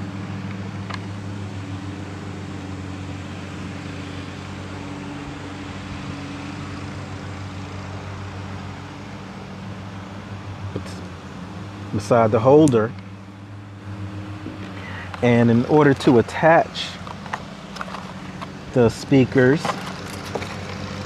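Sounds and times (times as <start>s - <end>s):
steady motor drone: 0.0s - 21.0s.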